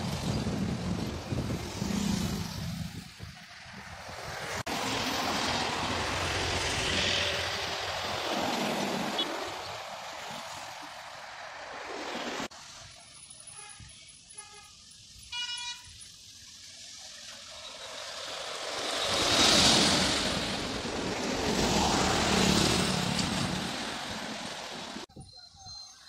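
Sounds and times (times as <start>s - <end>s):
highway traffic passing: 0.0s - 25.1s.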